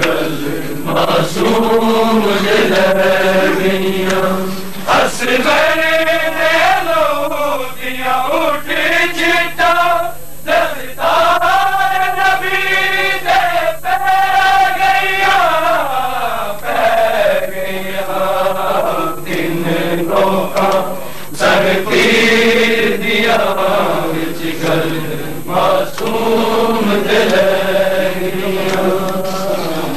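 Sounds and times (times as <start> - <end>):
men chanting a lament: 0.0 - 29.9.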